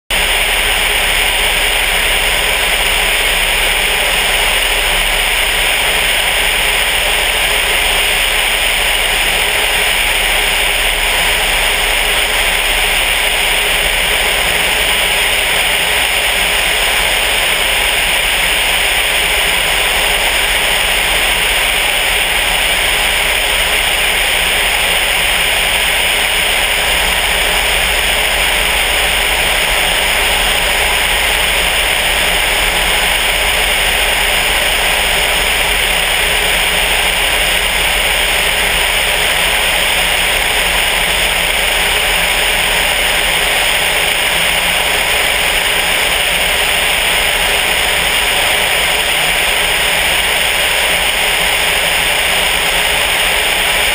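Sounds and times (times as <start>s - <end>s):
aircraft engine drone: 0.1s - 53.9s.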